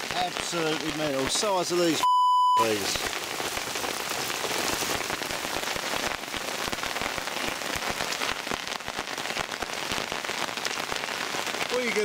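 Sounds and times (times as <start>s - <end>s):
hailstones tapping: 0.0s - 2.0s, 2.6s - 12.0s
heavy rain hissing: 0.0s - 12.0s.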